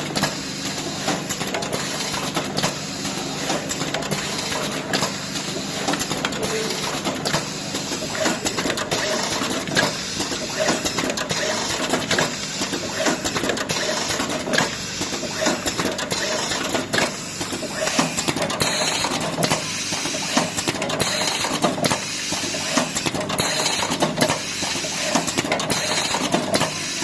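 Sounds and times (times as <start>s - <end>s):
packing machine clattering: 0.0s - 27.0s.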